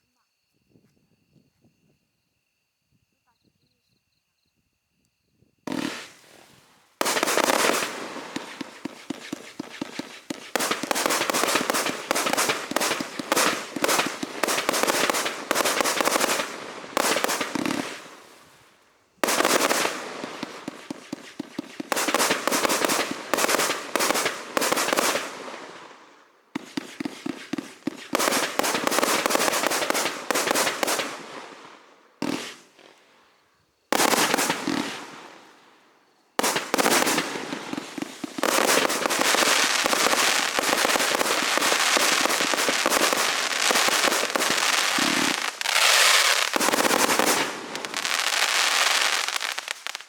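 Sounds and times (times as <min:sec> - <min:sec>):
fireworks shots bursting and crackling: 0:05.7 - 0:33.0, 0:33.9 - 0:35.8, 0:36.4 - 0:50.0.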